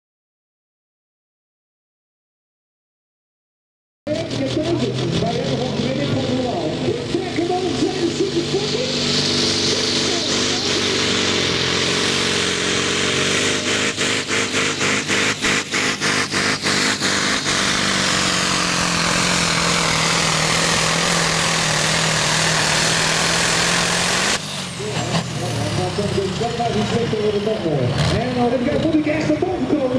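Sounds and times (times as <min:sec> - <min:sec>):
diesel truck engine at full throttle: 0:04.1 - 0:29.9.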